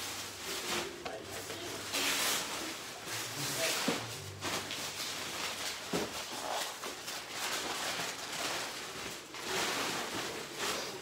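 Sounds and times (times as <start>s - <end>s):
wrapping paper rustling: 0.0s - 11.0s.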